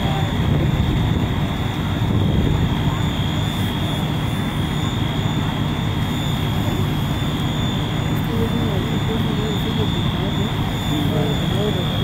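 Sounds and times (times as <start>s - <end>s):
high whine: 0.0s - 12.0s
low engine drone: 0.0s - 12.0s.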